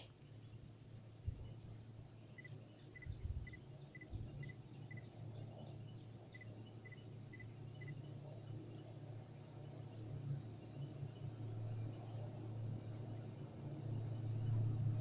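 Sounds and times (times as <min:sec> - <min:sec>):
insects whining: 0:00.0 - 0:15.0
steady low hum: 0:00.0 - 0:15.0.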